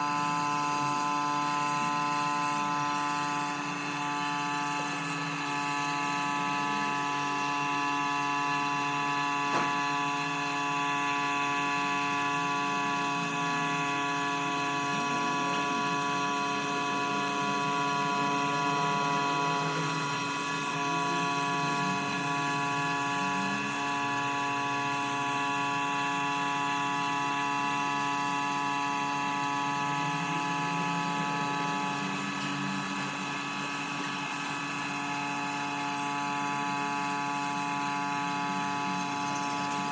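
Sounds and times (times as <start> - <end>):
machine motor running: 0.0 - 39.9.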